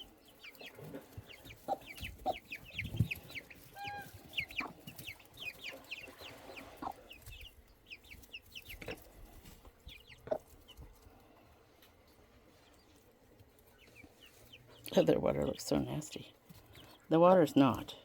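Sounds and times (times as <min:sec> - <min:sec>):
hen clucking: 0:00.0 - 0:17.9
chicks peeping: 0:00.0 - 0:18.0.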